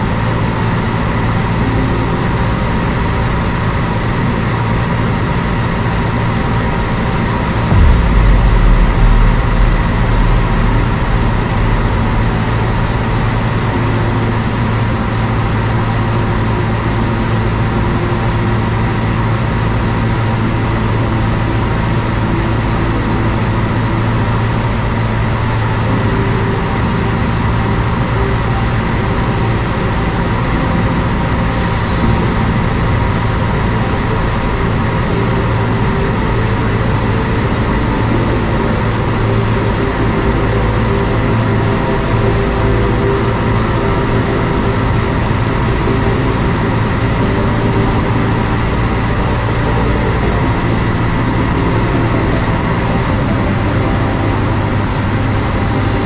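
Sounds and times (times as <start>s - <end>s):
light airplane engine droning: 0.0s - 56.0s.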